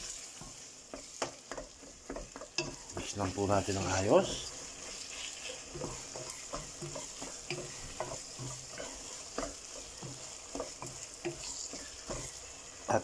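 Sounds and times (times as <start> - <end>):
light steady sizzle: 0.0 - 13.0
wooden spatula scraping a pot: 0.0 - 13.0.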